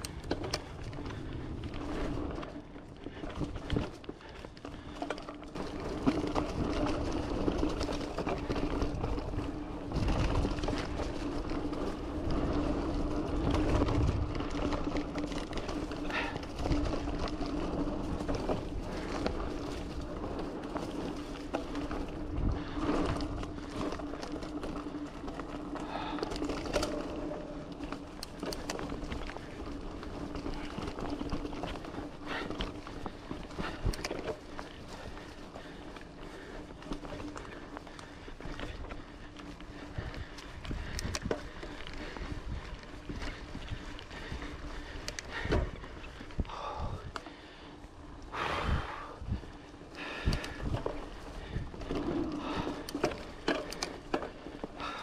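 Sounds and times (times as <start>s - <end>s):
bike rattling and clicking: 0.0s - 55.0s
bike tyres rolling on dirt: 0.0s - 55.0s.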